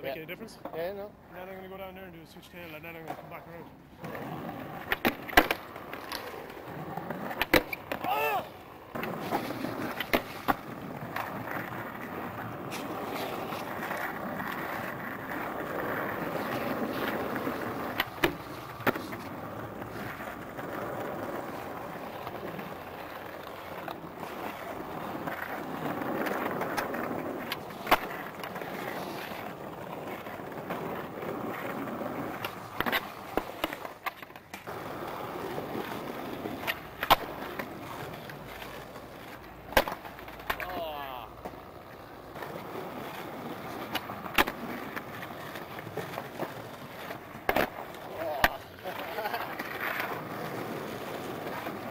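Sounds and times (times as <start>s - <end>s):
skateboard wheels rolling on pavement: 0.0s - 51.9s
skateboard clacks: 2.4s - 51.9s.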